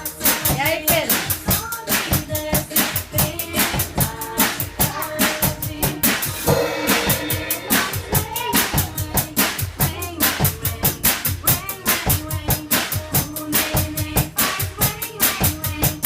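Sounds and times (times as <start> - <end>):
drum kit playing: 0.0 - 16.0
music with singing: 0.0 - 16.0.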